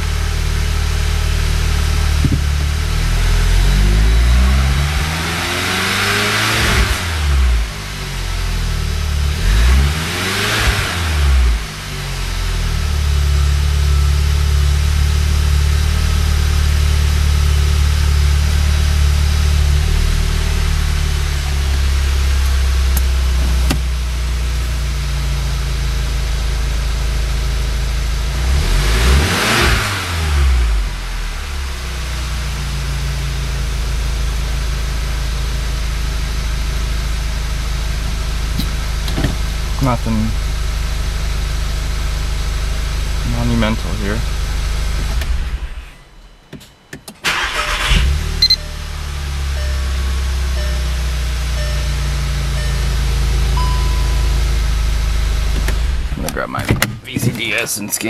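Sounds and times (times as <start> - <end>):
car engine idling and revving: 0.0 - 58.0.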